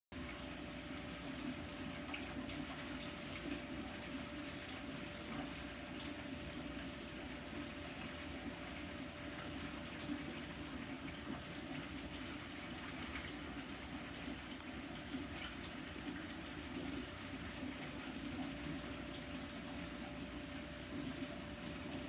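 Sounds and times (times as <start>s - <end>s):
aquarium water splashing and trickling: 0.1s - 22.0s
faint steady hum: 0.2s - 22.0s.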